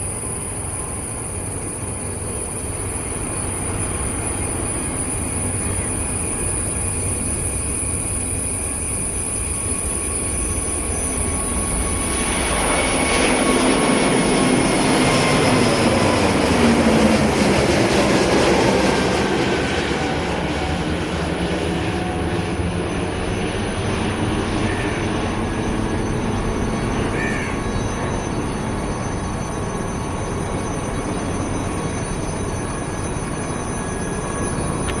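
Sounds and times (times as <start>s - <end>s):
airliner passing by: 0.0s - 35.0s.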